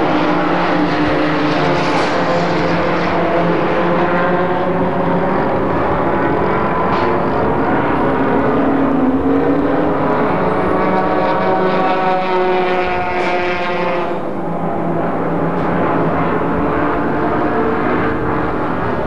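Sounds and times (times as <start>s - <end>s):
racing car engines droning: 0.0s - 19.0s.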